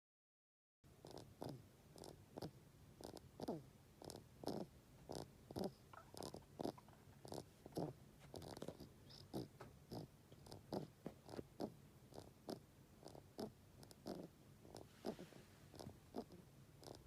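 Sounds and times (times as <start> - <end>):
rabbit snorting breaths: 1.0 - 17.0.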